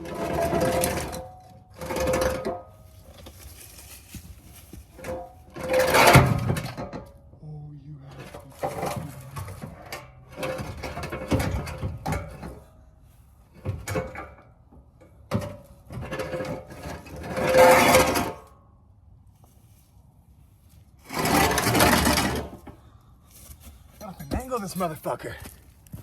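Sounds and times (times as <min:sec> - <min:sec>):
exhaust pipe scraping and clanking: 0:00.0 - 0:07.4, 0:08.0 - 0:18.7, 0:19.4 - 0:26.0.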